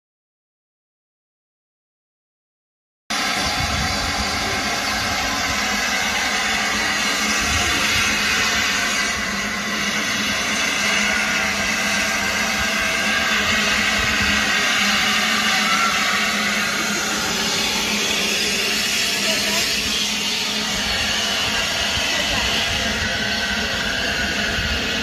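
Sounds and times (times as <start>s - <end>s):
steam hissing from locomotive: 3.1s - 25.0s.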